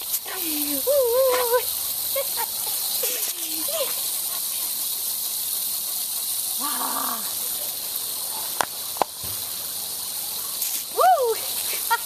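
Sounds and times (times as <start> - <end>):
hose nozzle spray hissing: 0.0 - 12.0.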